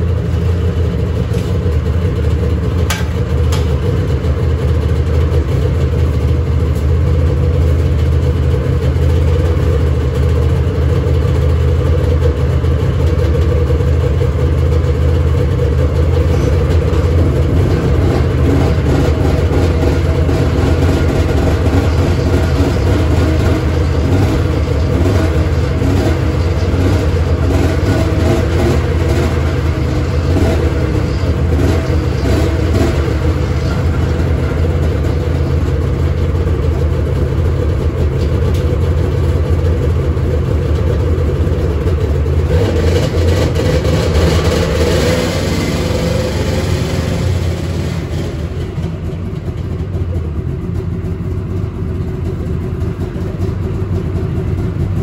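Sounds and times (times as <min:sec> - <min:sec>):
snowmobile engine idling: 0:00.0 - 0:55.0.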